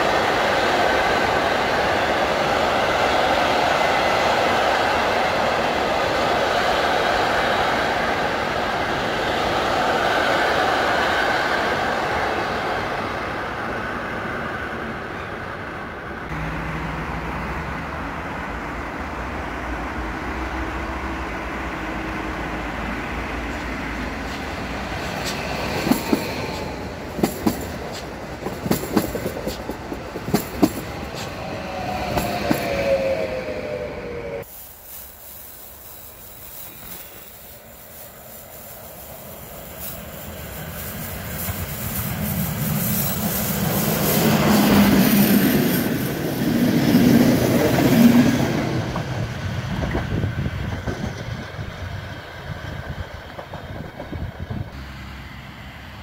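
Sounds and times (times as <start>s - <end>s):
train rumbling on tracks: 0.0s - 56.0s.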